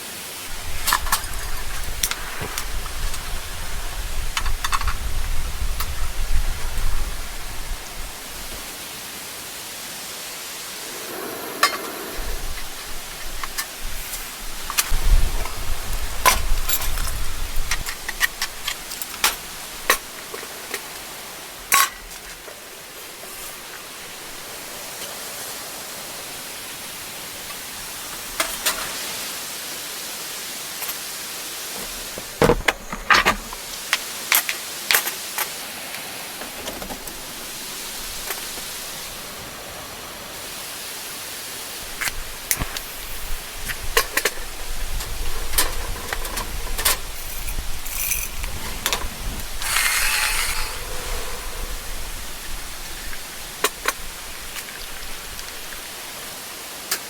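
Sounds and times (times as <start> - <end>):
heavy rain hissing: 0.0 - 57.0.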